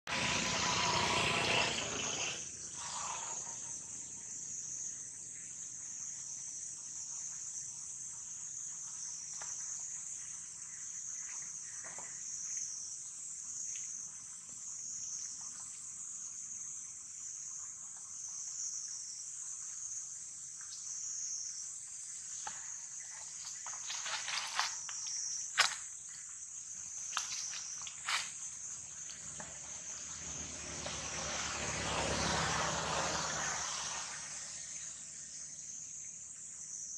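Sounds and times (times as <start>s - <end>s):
high-pitched insect chorus: 0.1s - 36.9s.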